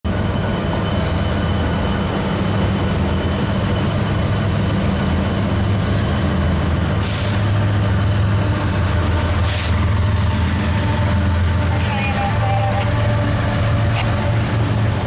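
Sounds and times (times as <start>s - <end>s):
diesel locomotives idling: 0.1s - 15.0s.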